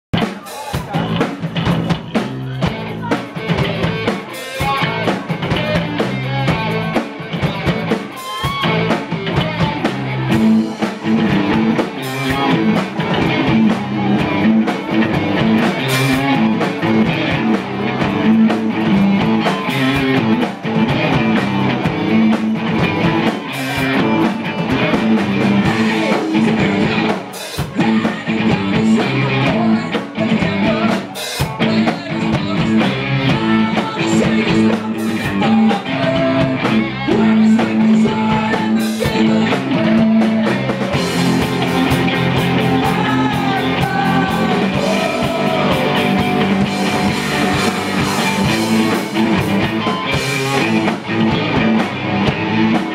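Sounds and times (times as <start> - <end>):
bass guitar: 0.0 - 52.9
drum kit: 0.1 - 52.9
electric guitars: 0.1 - 52.9.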